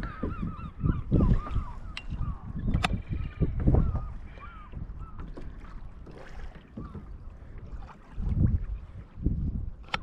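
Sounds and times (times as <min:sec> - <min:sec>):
water moving against kayak: 0:00.0 - 0:10.0
wind buffeting microphone: 0:00.0 - 0:10.0.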